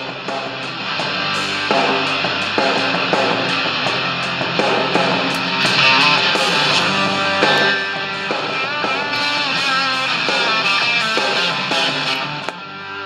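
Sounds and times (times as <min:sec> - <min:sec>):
guitar music through a small speaker: 0:00.0 - 0:13.0.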